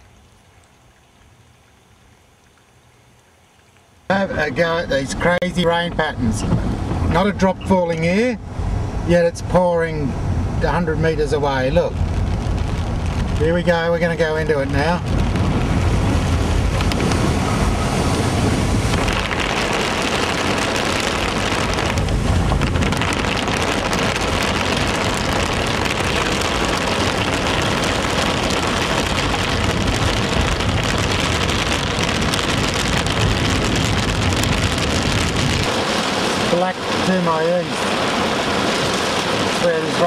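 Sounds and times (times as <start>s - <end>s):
heavy rain on car roof: 3.8s - 9.1s, 10.4s - 40.0s
car rumbling on road: 4.1s - 40.0s.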